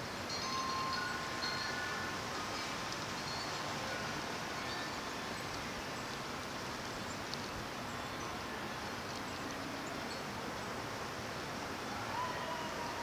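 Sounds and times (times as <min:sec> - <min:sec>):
wind hissing in snowstorm: 0:00.0 - 0:13.0.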